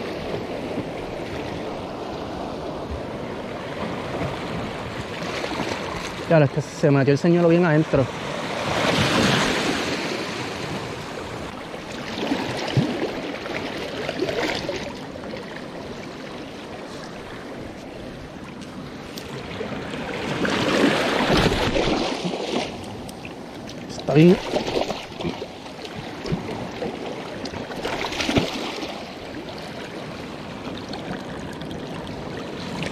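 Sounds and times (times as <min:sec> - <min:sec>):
waves washing over rocks: 0:00.0 - 0:32.9.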